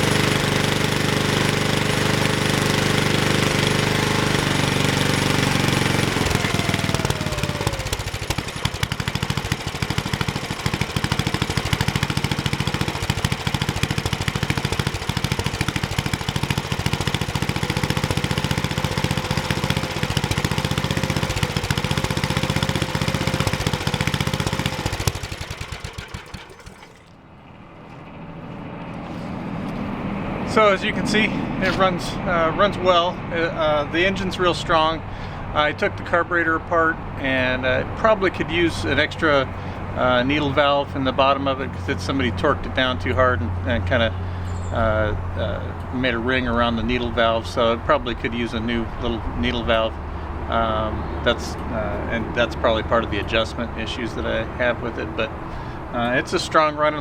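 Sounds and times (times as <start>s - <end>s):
single-cylinder engine running: 0.0s - 57.0s.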